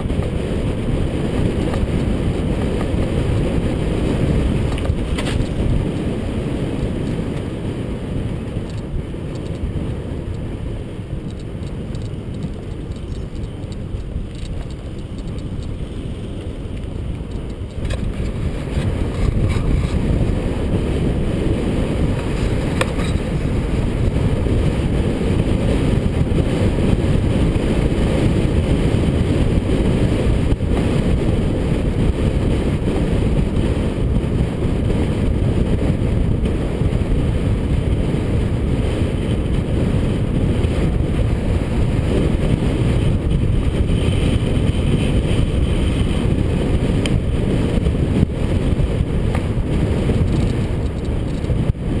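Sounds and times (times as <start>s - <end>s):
bike tyre road rumble: 0.0s - 52.0s
wind rush on camera: 0.0s - 52.0s.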